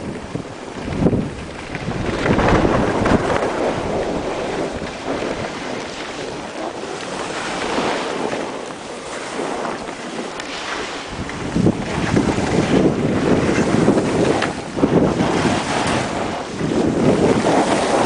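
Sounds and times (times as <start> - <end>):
wind rushing over microphone: 0.0 - 18.0
skis hissing and scraping on snow: 1.6 - 12.8, 13.5 - 18.0.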